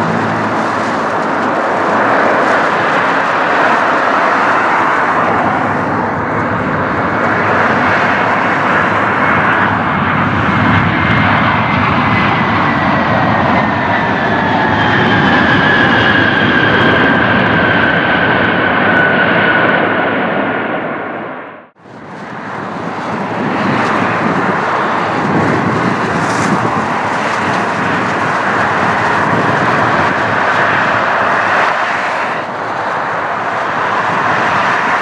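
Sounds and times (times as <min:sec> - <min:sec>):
jet airliner engines whining: 0:00.0 - 0:35.0.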